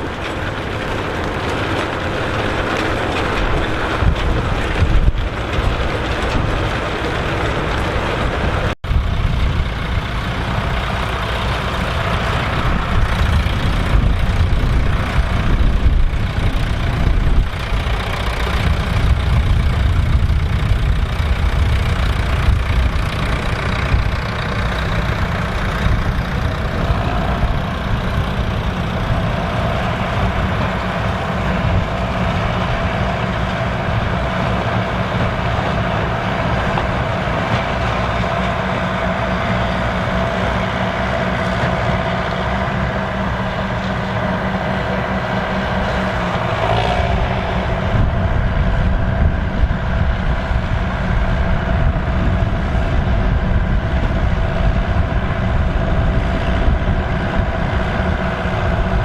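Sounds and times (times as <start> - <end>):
tractor diesel engine running: 0.0 - 59.0
steady whine: 7.2 - 59.0.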